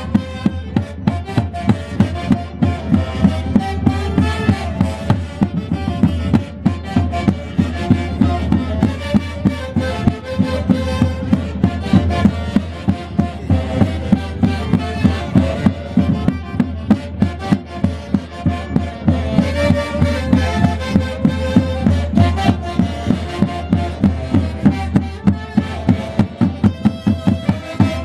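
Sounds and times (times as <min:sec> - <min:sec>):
steady drum beat: 0:00.0 - 0:28.0
violins playing a tune: 0:00.0 - 0:28.0.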